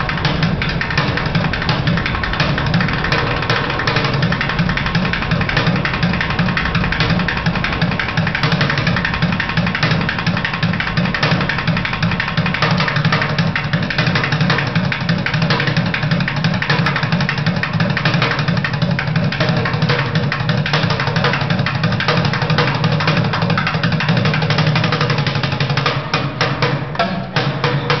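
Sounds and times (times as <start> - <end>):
fast drumming: 0.0 - 28.0.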